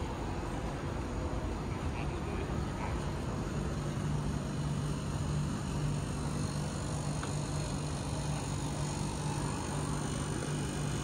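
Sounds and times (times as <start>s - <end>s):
constant background rush: 0.0s - 11.0s
vending machine cooling hum: 0.0s - 11.0s.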